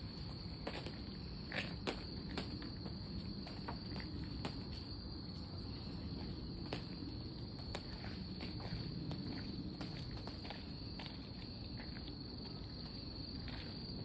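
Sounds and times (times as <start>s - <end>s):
night insects trilling: 0.0s - 14.0s
soft footsteps: 0.0s - 14.0s.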